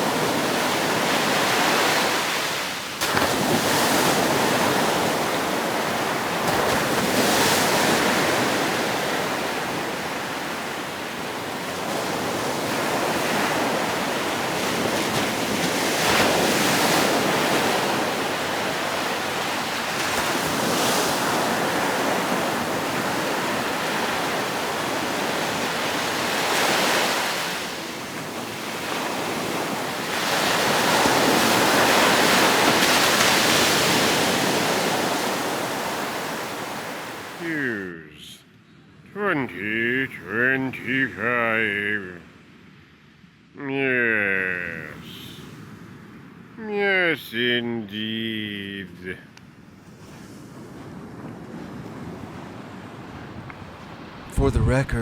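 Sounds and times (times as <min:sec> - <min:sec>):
waves breaking on beach: 0:00.0 - 0:37.9, 0:43.7 - 0:55.0.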